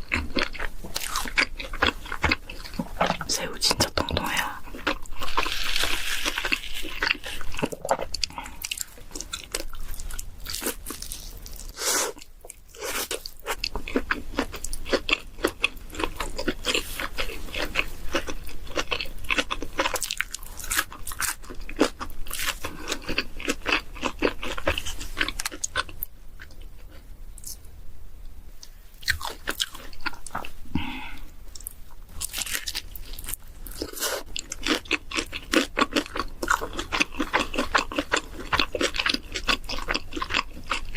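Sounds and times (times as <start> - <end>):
person chewing crunchy food: 0.0 - 27.6, 28.6 - 40.9.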